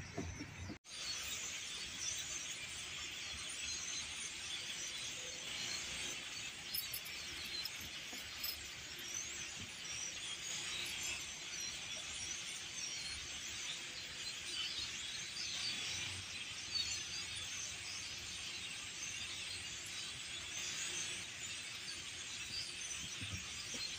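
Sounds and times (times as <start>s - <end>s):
flock of starlings chattering: 0.0s - 23.9s.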